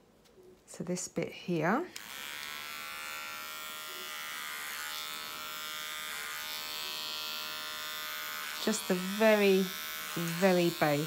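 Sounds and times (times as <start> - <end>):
electric hair clippers buzzing: 1.9 - 11.0.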